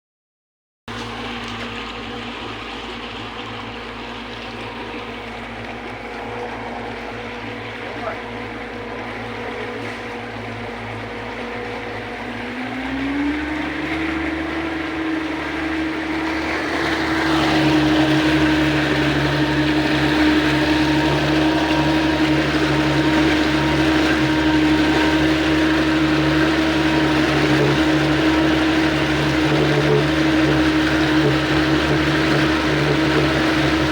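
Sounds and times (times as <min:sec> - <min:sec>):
speedboat engine drone: 0:00.9 - 0:33.9
water rushing: 0:00.9 - 0:33.9.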